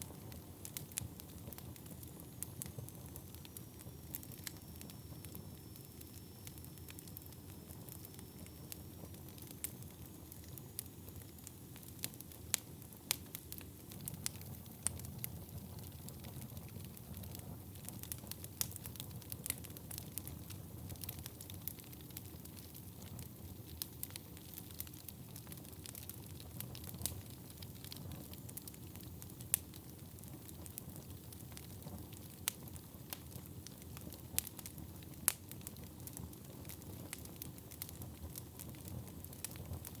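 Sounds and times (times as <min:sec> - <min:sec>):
crackles and pops of fire: 0:00.0 - 0:40.0
fire burning in fireplace: 0:00.0 - 0:40.0.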